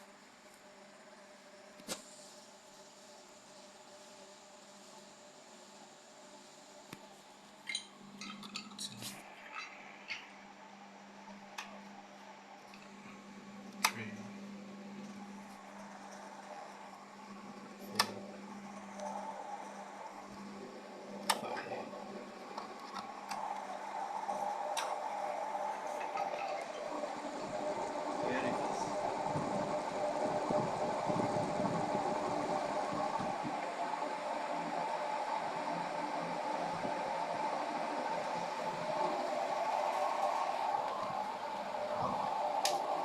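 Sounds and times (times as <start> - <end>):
ceiling fan humming: 0.0 - 43.0.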